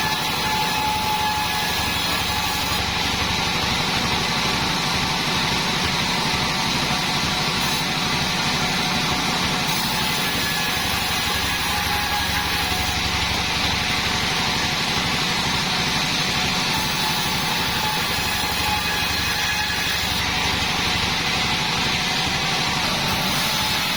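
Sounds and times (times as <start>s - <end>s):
sawmill engine running: 0.0s - 23.9s.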